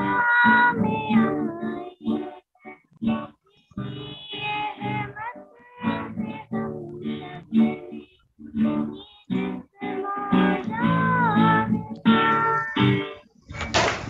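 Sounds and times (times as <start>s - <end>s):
girl singing: 0.0s - 13.2s
strummed acoustic guitar: 0.0s - 14.0s.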